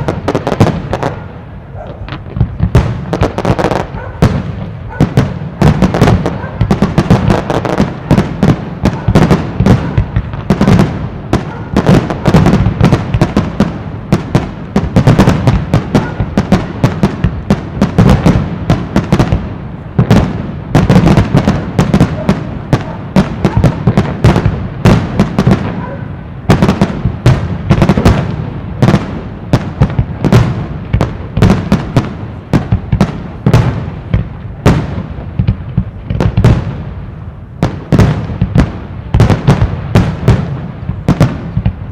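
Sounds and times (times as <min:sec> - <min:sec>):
firework crackle: 0:00.0 - 0:41.9.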